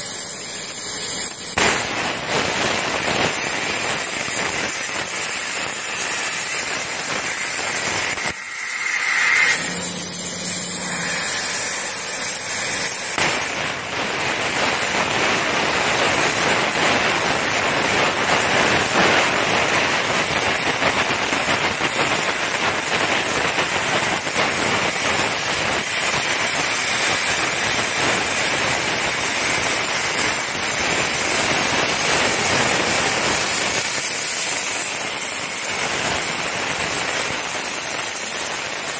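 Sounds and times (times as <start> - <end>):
plasma cutter hissing: 0.0 - 38.9.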